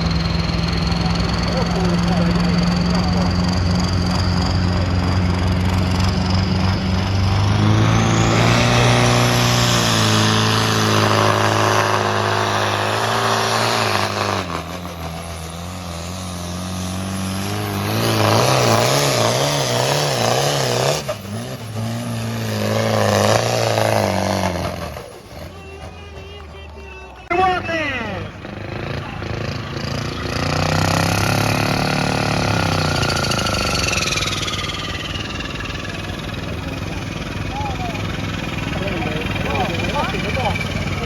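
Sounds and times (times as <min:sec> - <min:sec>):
tractor engine under load: 0:00.0 - 0:41.0.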